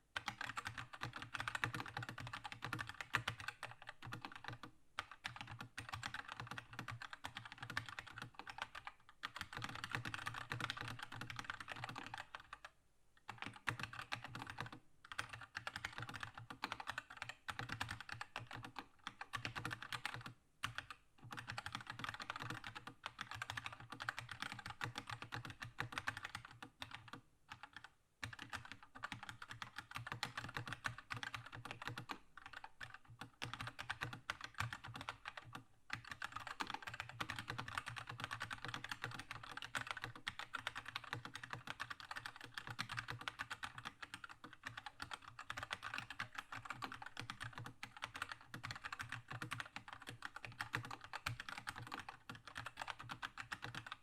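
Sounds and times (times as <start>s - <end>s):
fast mechanical keyboard typing: 0.2s - 12.7s, 13.3s - 54.0s.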